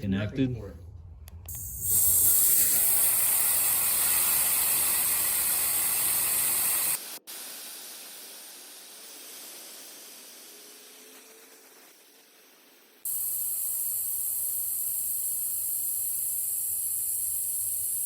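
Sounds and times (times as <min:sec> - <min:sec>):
compressed air hissing: 0:01.5 - 0:18.0.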